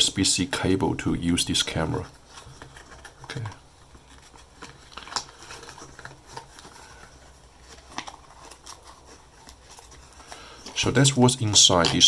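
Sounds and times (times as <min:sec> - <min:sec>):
packaging clicks and rustles: 0:01.2 - 0:12.0.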